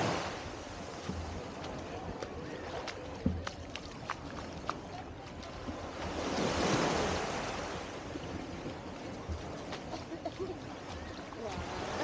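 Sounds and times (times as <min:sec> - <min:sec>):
light water splashes: 0:00.0 - 0:12.0
small waves lapping on beach: 0:00.0 - 0:12.0.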